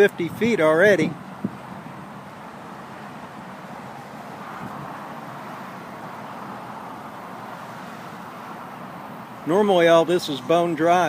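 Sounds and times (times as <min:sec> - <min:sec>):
creek water rushing: 0:00.6 - 0:11.0.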